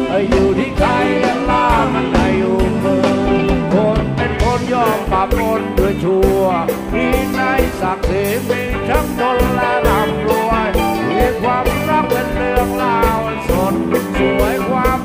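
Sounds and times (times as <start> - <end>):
bass: 0.0 - 15.0
drum beat: 0.0 - 15.0
person singing: 0.0 - 15.0
sliding melodic lead line: 0.0 - 15.0.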